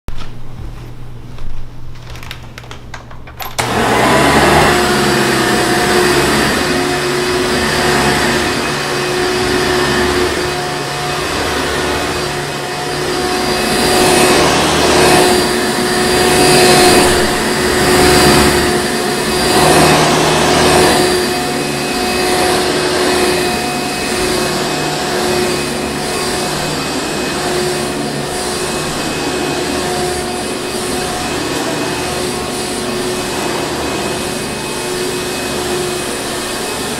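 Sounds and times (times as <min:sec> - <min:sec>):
vacuum cleaner running: 0:00.7 - 0:36.9.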